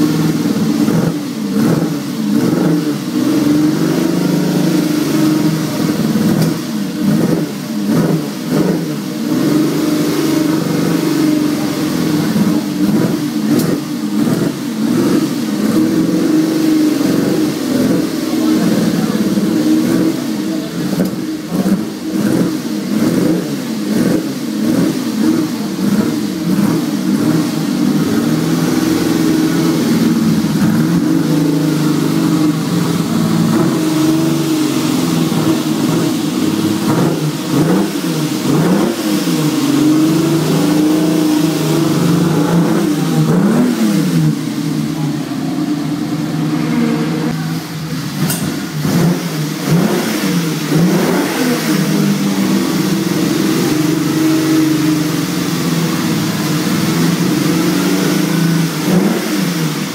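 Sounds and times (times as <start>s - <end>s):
engine revving and idling: 0.0s - 59.9s.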